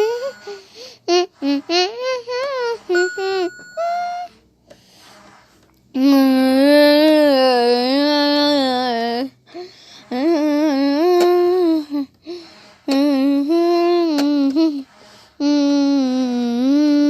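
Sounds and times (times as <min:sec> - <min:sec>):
high voice humming melody: 0:00.0 - 0:04.4, 0:05.9 - 0:17.0.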